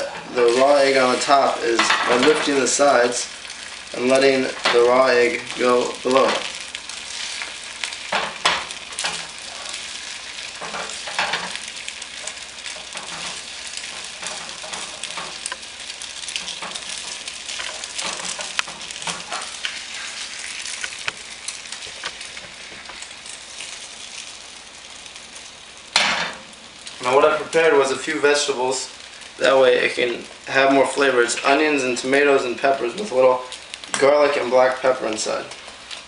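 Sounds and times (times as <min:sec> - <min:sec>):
eggs sizzling in frying pan: 0:00.0 - 0:36.0.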